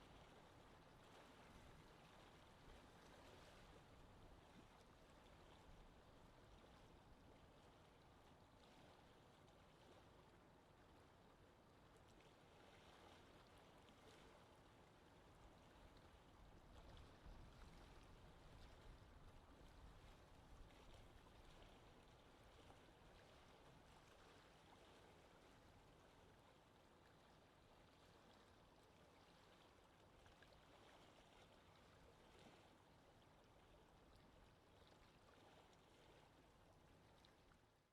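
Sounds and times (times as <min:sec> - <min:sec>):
water lapping gently: 0:00.0 - 0:37.9.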